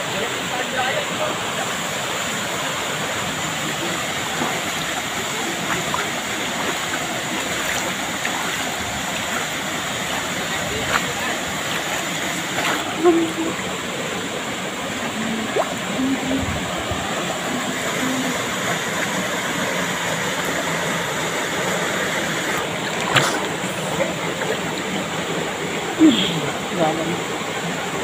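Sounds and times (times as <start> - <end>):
waterfall splashing into pool: 0.1 - 28.0.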